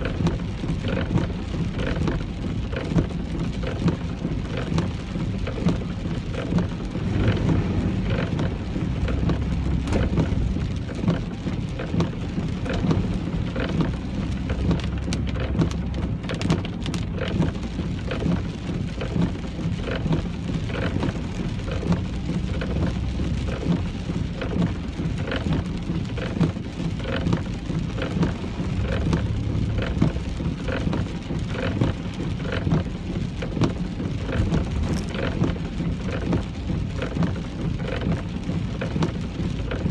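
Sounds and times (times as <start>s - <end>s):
car rumbling on road: 0.0s - 39.9s
rain drops hitting car: 0.0s - 39.9s.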